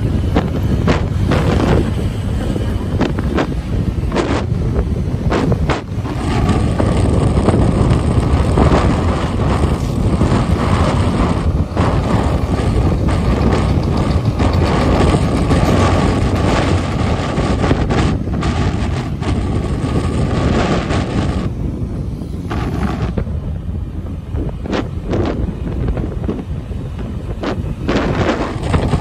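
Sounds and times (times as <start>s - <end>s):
engine and tyre rumble: 0.0s - 29.0s
wind buffeting microphone: 0.0s - 29.0s.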